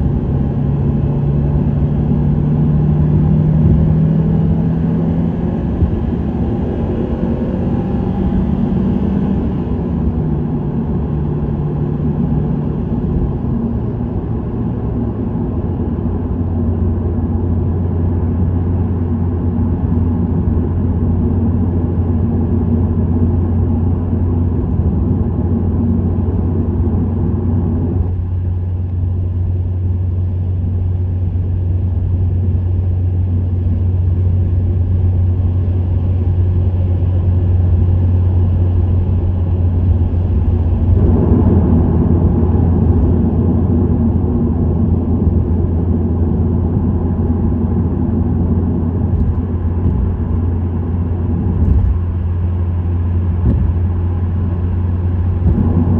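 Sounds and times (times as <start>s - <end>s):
car exhaust drone: 0.0s - 55.9s.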